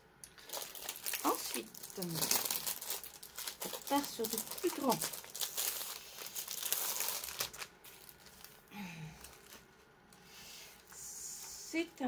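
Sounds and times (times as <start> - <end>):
plastic packaging crinkling: 0.2 - 9.9.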